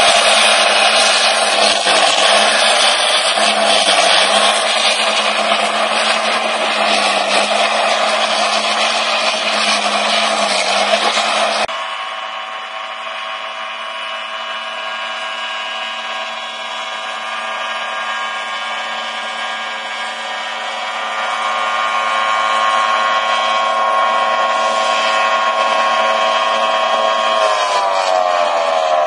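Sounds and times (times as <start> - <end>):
forage harvester whining: 0.0 - 29.0.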